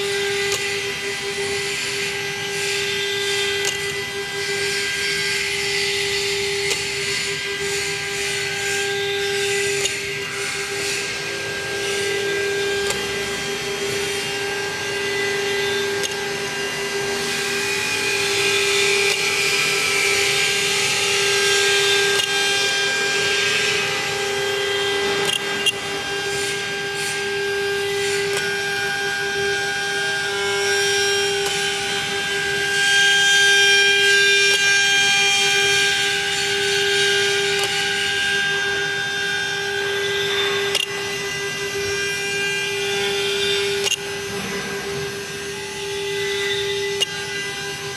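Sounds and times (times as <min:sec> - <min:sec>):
router spindle whining: 0:00.0 - 0:47.9.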